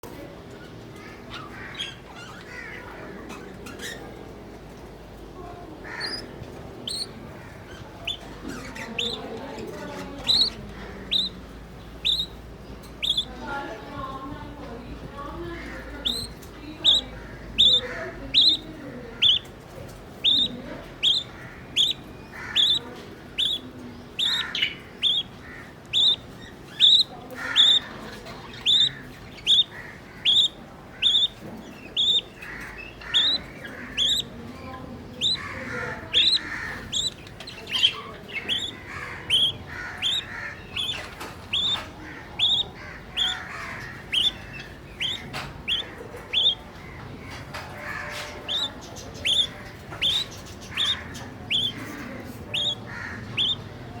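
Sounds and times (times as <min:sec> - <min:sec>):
chick cheeping: 0:06.0 - 0:13.8, 0:15.7 - 0:19.6, 0:20.2 - 0:54.0
soft low chirps: 0:06.0 - 0:54.0.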